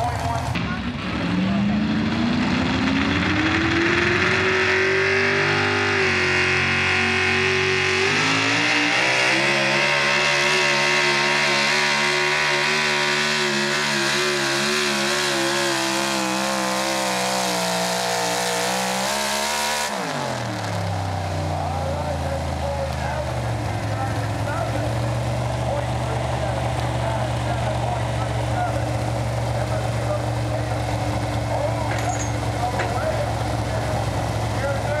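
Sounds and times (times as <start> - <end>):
truck engine revving flat out: 0.0 - 35.0.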